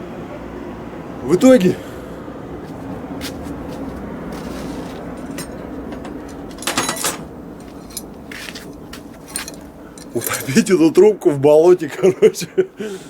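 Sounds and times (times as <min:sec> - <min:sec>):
diesel engine humming: 0:00.0 - 0:11.1.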